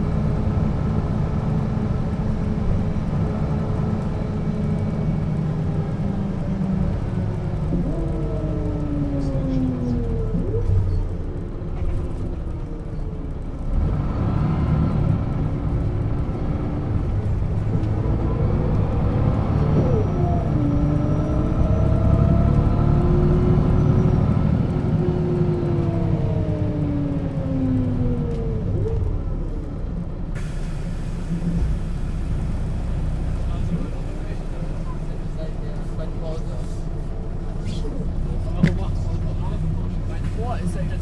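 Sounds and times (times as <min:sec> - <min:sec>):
bus engine and gearbox whine: 0:00.0 - 0:41.0.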